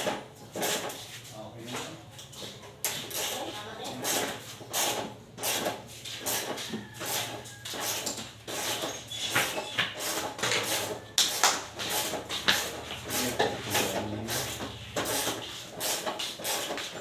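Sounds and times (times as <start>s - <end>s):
hand tools scraping and clicking: 0.0s - 17.0s.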